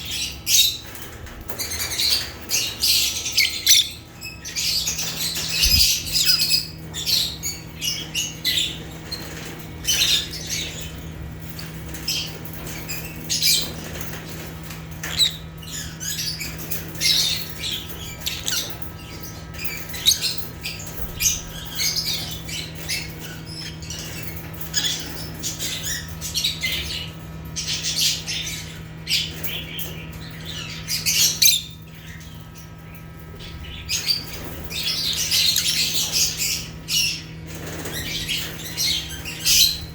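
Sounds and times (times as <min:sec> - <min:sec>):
lovebirds chirping and squawking: 0:00.0 - 0:39.9
steady low hum: 0:00.0 - 0:39.9.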